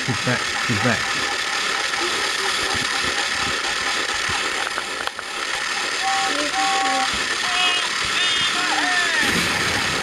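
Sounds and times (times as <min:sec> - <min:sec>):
toy train motor whirring: 0:00.0 - 0:10.0.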